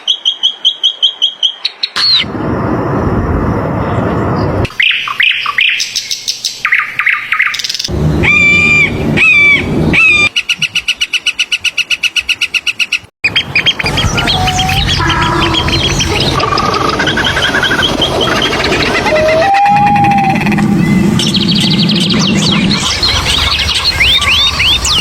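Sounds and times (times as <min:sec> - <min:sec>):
bird chirps: 0:04.7 - 0:25.0
bird trill: 0:04.7 - 0:25.0
whistled bird call: 0:04.7 - 0:25.0.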